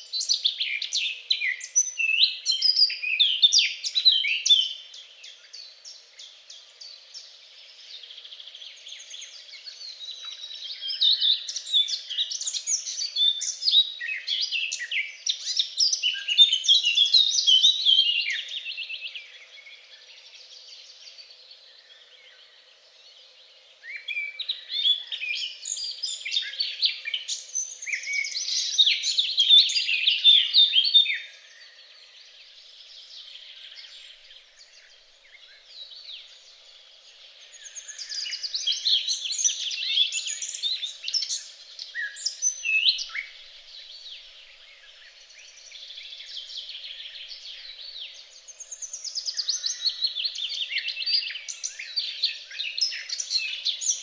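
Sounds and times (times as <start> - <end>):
quiet bird calls: 0.0 - 54.0
songbird twittering: 0.0 - 54.0.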